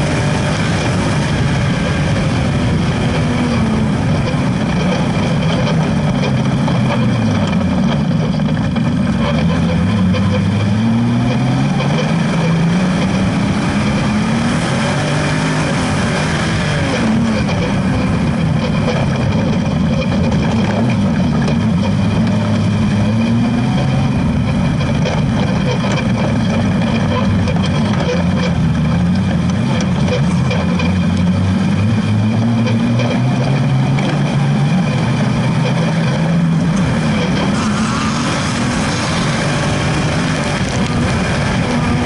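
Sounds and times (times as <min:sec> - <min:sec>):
buggy engine revving: 0:00.0 - 0:42.0.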